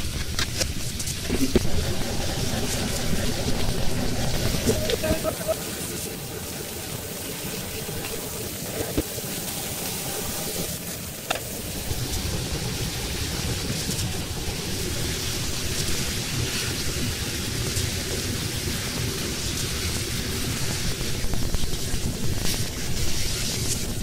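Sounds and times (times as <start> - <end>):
gas burner rushing: 0.0 - 24.0
noodles sizzling in a wok: 0.0 - 24.0.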